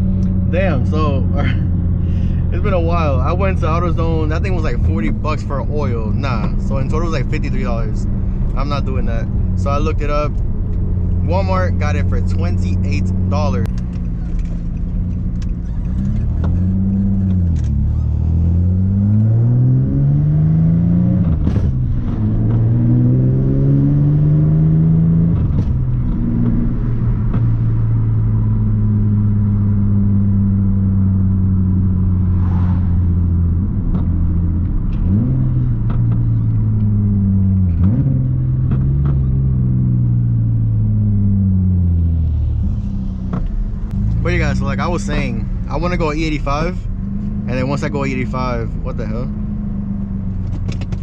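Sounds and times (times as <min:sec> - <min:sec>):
car engine shifting gears: 0:00.0 - 0:51.0.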